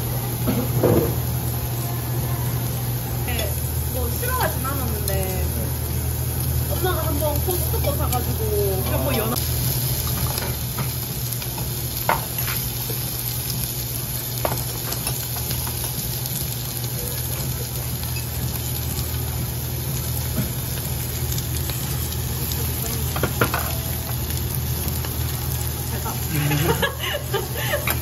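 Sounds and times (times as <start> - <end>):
meat sizzling on a grill plate: 0.0 - 28.0.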